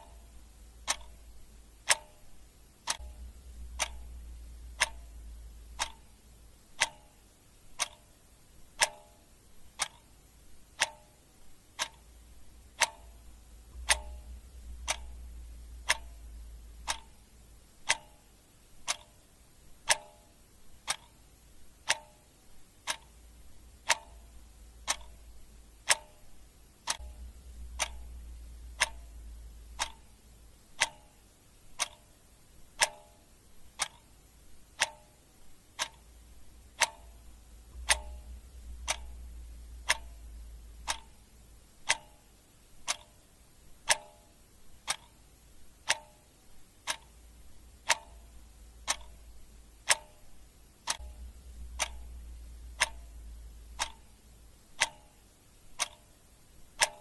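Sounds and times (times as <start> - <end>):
clock ticking: 0.0 - 57.0
faint low rumble: 0.0 - 57.0.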